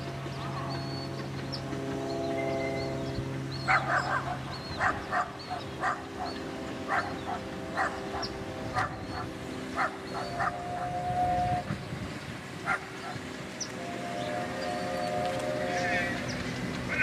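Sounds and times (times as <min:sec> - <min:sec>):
geese honking: 0:00.0 - 0:17.0
steady low hum: 0:00.0 - 0:17.0.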